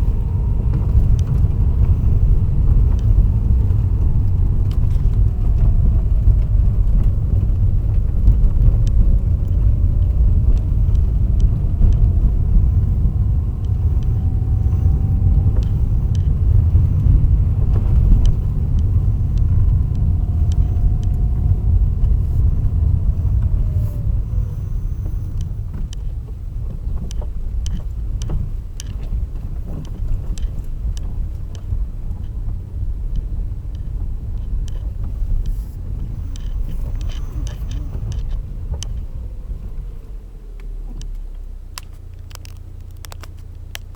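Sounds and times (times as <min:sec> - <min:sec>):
car road rumble: 0:00.0 - 0:43.9.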